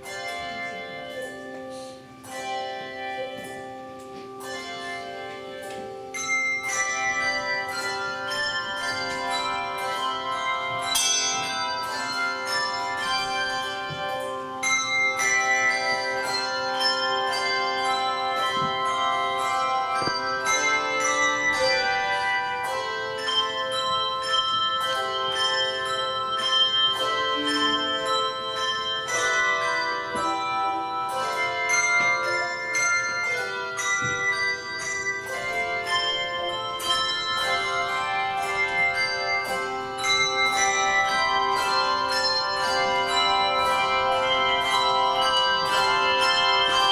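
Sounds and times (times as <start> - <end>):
handbell choir ringing: 0.0 - 46.9.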